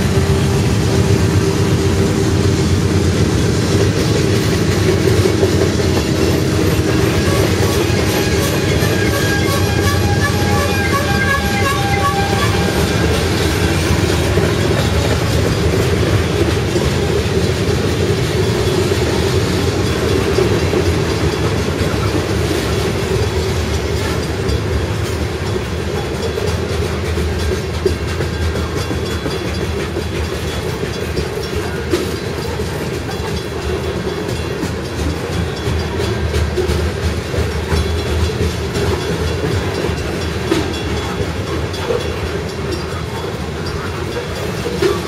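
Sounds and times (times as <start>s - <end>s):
clickety-clack over rail joints: 0.0s - 45.0s
train wheels rumbling on rail: 0.0s - 45.0s.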